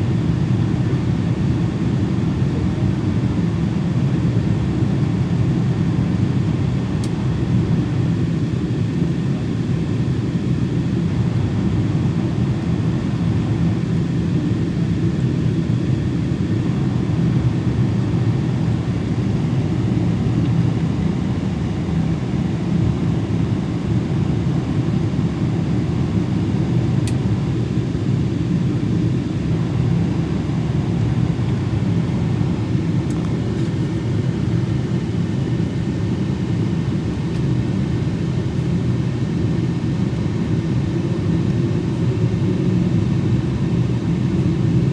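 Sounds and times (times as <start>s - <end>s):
airliner cabin rumble: 0.4s - 40.3s.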